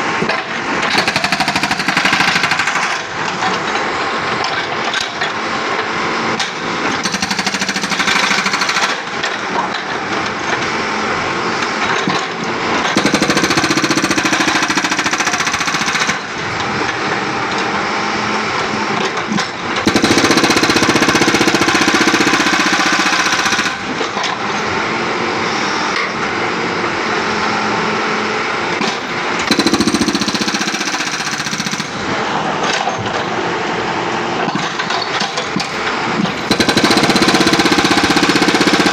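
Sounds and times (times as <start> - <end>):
hydraulic breaker hammering concrete: 0.0 - 38.9.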